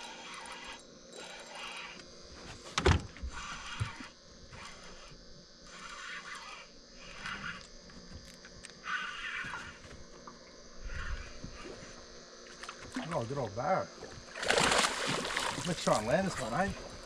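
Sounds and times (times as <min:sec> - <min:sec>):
frogs croaking: 0:00.0 - 0:17.0
insects chirping: 0:00.0 - 0:17.0.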